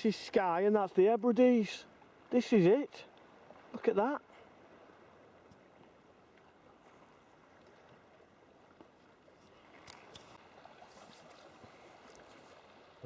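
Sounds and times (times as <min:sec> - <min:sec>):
faint water lapping: 0:00.0 - 0:13.0
paddle splashes: 0:00.0 - 0:13.0.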